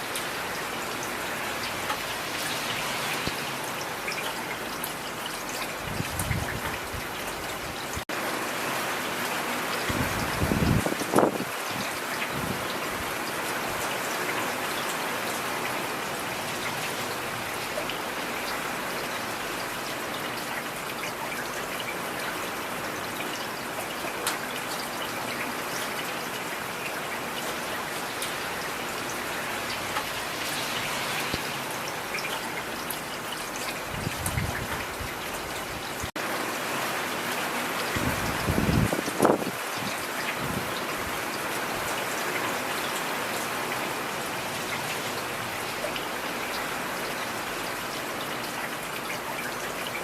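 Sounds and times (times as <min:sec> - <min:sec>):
heavy rain falling: 0:00.0 - 0:50.0.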